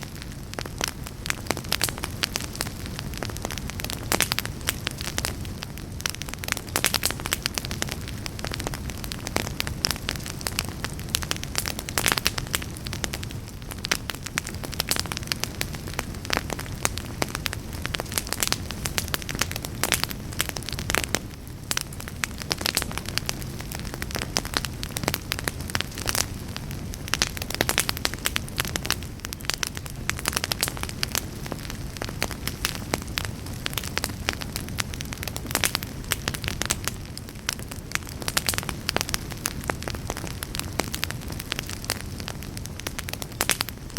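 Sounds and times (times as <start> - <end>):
fire crackling and popping: 0.0 - 43.9
fire flames rumbling: 0.0 - 43.9.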